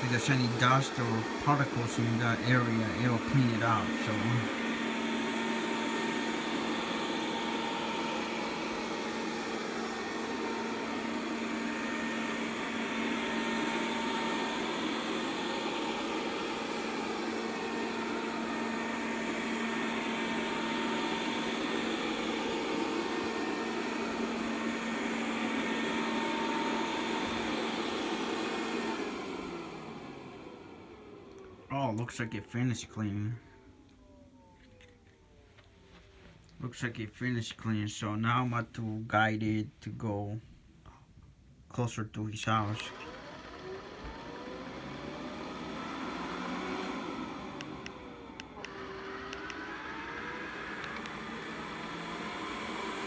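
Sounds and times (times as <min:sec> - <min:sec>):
robot vacuum running: 0:00.0 - 0:32.5, 0:42.8 - 0:53.0.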